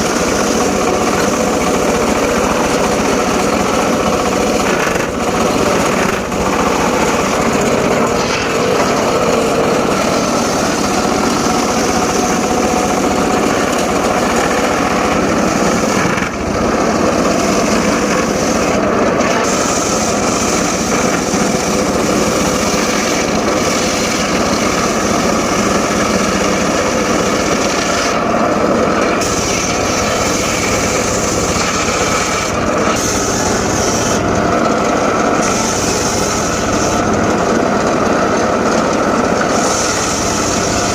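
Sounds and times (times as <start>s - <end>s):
circular saw cutting logs: 0.0s - 40.9s.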